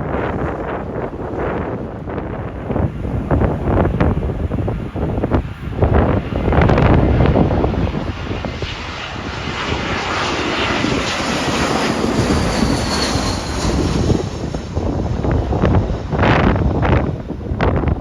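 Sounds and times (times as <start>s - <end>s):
jet airliner passing overhead: 0.0s - 18.0s
wind gusting on microphone: 0.0s - 18.0s.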